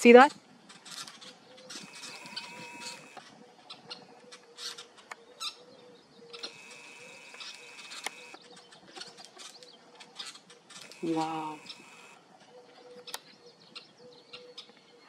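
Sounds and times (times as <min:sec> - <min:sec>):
songbirds chipping and twittering: 0:00.0 - 0:15.0.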